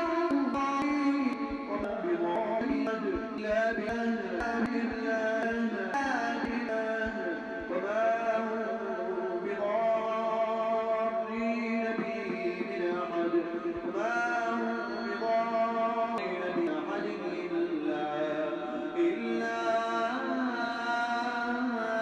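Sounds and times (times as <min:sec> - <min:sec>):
man chanting recitation: 0:00.0 - 0:22.0.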